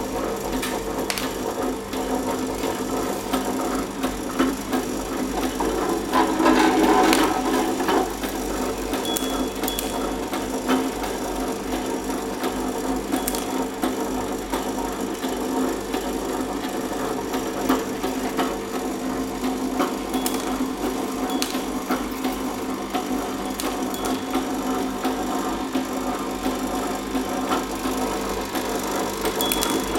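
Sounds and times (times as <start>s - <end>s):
machine motor hum: 0.0s - 29.9s.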